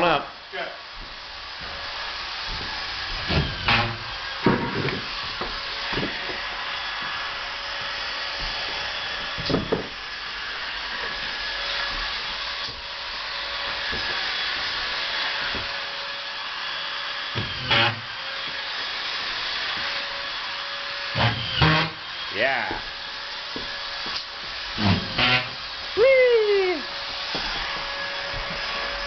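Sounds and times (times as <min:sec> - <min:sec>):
screw gun buzzing whine: 0:01.6 - 0:26.0.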